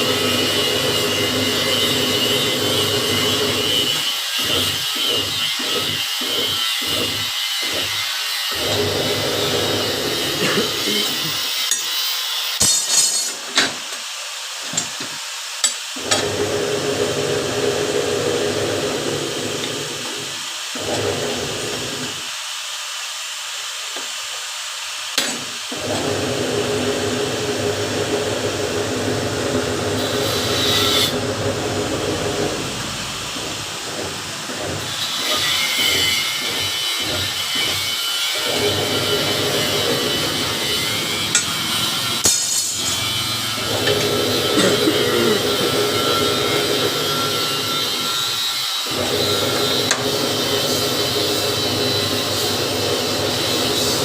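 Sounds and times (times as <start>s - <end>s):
machine cutting metal: 0.0s - 13.9s, 14.7s - 22.3s, 25.1s - 54.0s.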